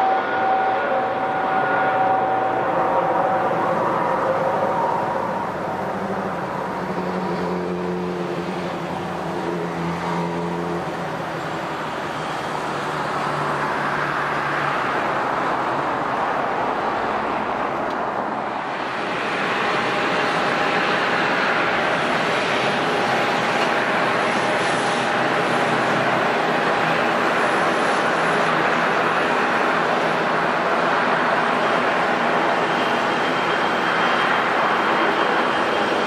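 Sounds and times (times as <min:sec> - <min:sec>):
jet airliner engine noise: 0:00.0 - 0:36.0
turboprop propeller whine: 0:00.0 - 0:36.0.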